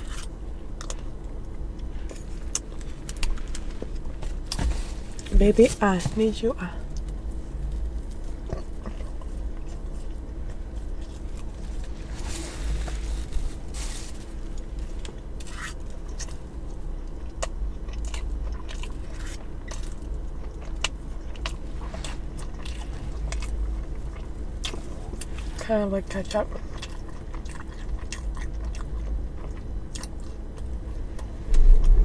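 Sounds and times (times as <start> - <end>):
chewing and biting food: 0.0 - 32.0
low steady hum: 0.0 - 32.0.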